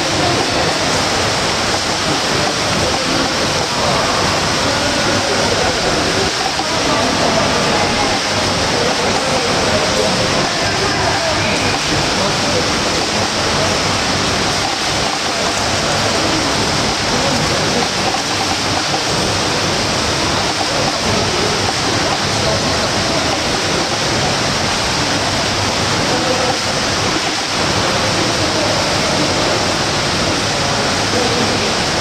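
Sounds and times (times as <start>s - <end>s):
swimmers splashing water: 0.0s - 32.0s.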